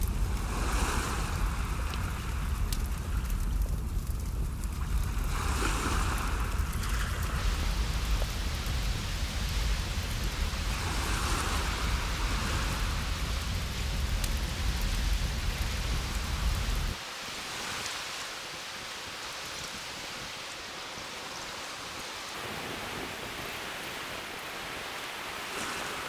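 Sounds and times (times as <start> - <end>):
waves washing ashore: 0.0 - 26.0
wind rumble on microphone: 0.0 - 26.0.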